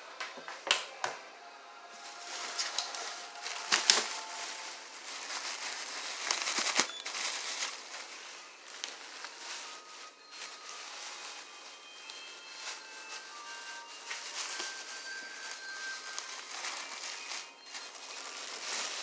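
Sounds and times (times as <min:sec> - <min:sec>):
crinkling and rustling: 0:01.9 - 0:19.0.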